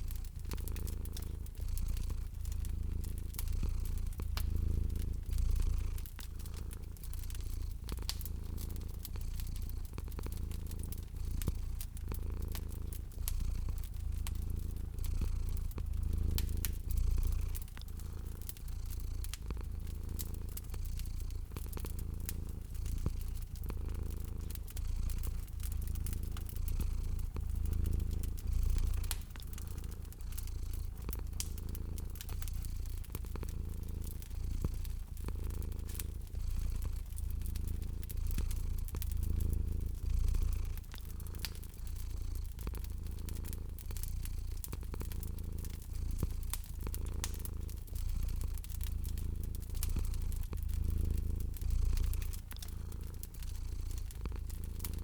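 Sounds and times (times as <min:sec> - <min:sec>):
cat purring: 0:00.0 - 0:55.0
fire crackling: 0:00.0 - 0:55.0.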